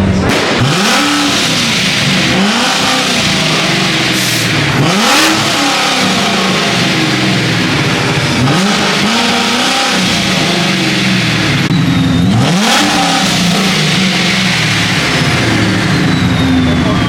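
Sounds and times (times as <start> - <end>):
car engine revving: 0.0 - 17.0
engines idling: 0.0 - 17.0.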